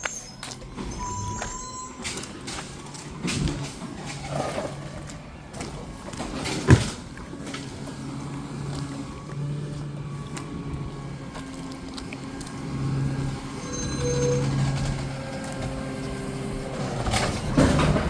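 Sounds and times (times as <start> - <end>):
garbage truck engine running: 0.0 - 18.0.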